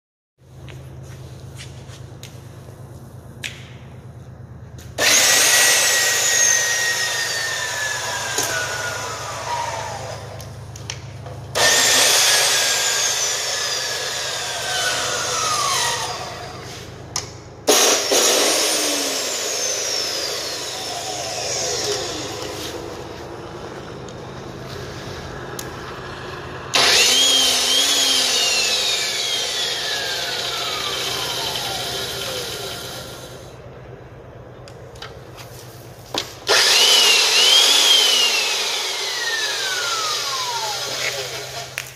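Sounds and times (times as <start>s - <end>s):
chop saw motor whine: 4.8s - 33.7s, 36.2s - 41.9s.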